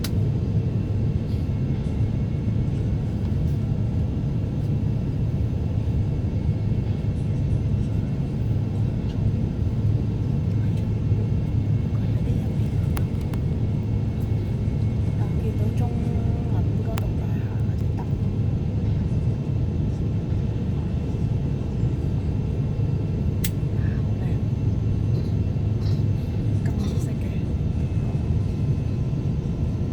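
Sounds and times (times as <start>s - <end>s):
airplane cabin engine rumble: 0.0s - 29.9s.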